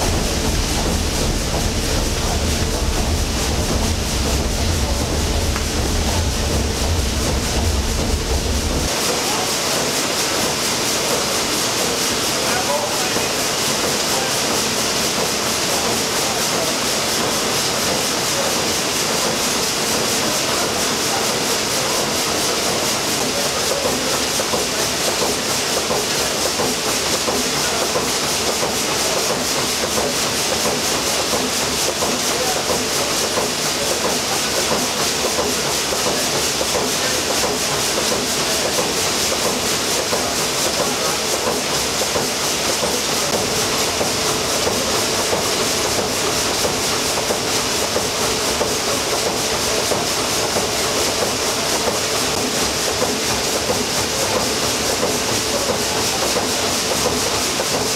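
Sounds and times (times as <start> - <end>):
continuous steam hiss: 0.0 - 57.9.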